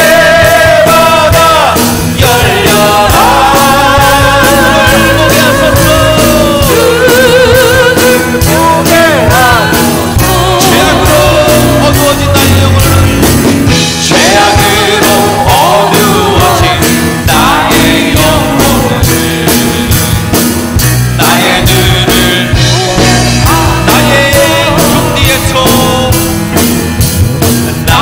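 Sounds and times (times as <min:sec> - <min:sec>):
man singing into microphone: 0:00.0 - 0:13.4, 0:14.0 - 0:20.0, 0:21.2 - 0:26.4, 0:27.7 - 0:28.0
worship band playing: 0:00.0 - 0:28.0.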